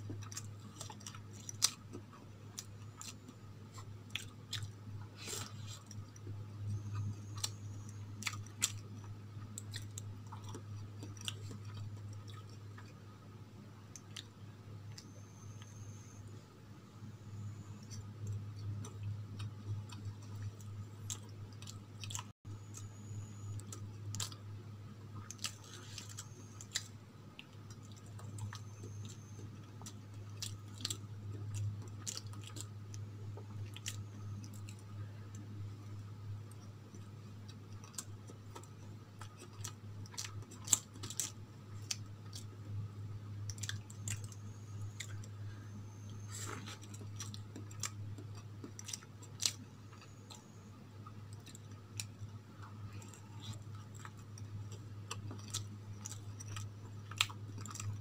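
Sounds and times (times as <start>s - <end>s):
person chewing with mouth clicks: 0.0s - 13.0s, 17.8s - 24.4s, 25.2s - 42.6s, 43.4s - 58.0s
low hum: 0.0s - 58.0s.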